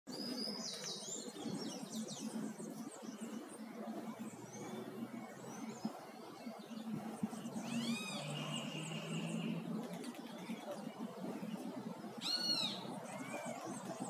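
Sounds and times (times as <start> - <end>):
birds chirping: 0.1 - 14.0
low steady hum: 0.1 - 14.0.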